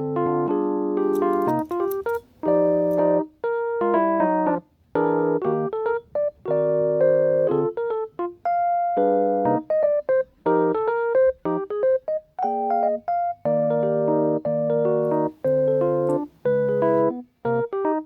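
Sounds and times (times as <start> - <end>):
soft keyboard chords: 0.0 - 18.0.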